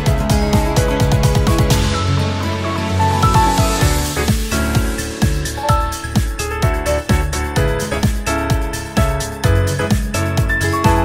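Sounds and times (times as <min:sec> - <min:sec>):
kick drum beat: 0:00.0 - 0:02.0, 0:03.2 - 0:11.0.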